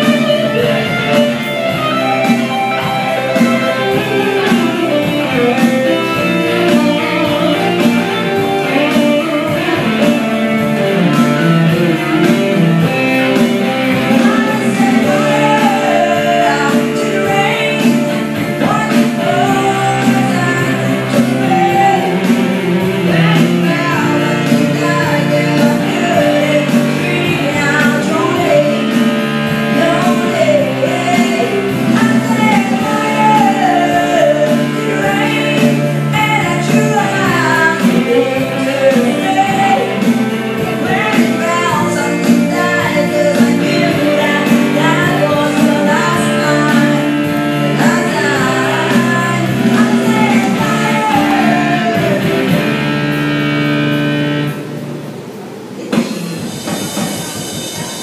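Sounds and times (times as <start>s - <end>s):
woman singing into microphone: 0.0s - 52.8s
electric keyboard: 0.0s - 58.0s.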